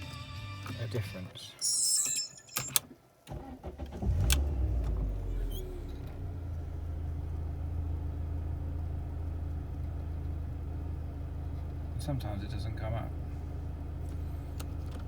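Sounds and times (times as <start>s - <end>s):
car engine starting and idling: 2.5s - 15.0s.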